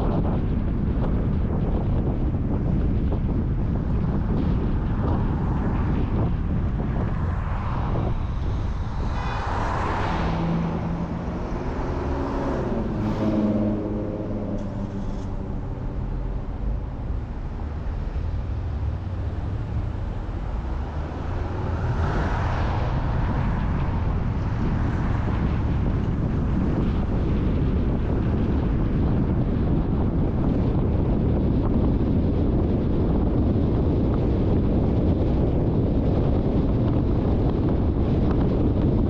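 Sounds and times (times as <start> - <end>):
car road and wind noise: 0.0 - 39.0
vehicle engine: 0.0 - 39.0.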